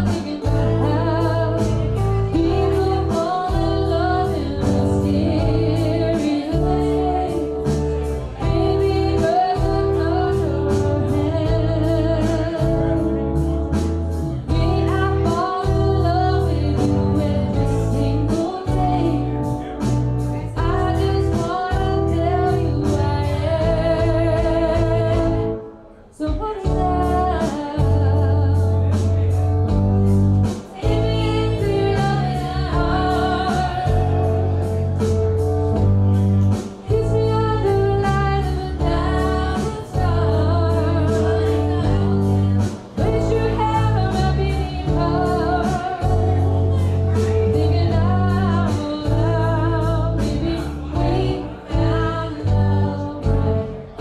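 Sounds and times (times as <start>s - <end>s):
woman singing: 0.0s - 13.6s, 14.3s - 29.8s, 30.4s - 34.8s, 36.6s - 54.0s
steady bass line: 0.0s - 25.6s, 26.7s - 54.0s
guitar: 0.0s - 54.0s.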